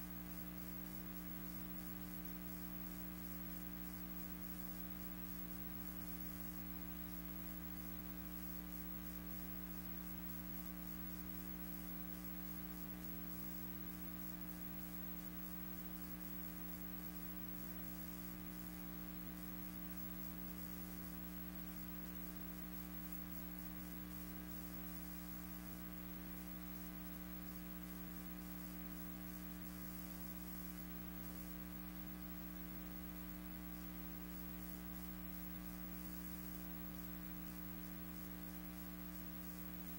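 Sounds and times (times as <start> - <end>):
electrical hum: 0.0 - 39.9
faint hiss: 0.0 - 39.9.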